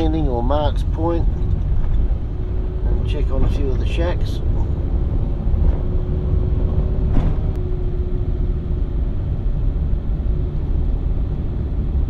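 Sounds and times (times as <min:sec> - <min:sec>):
vehicle road rumble: 0:00.0 - 0:12.0.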